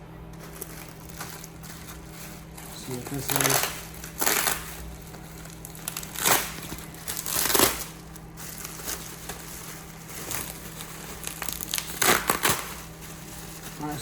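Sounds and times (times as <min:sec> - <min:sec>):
packaging crinkling: 0:00.3 - 0:14.0.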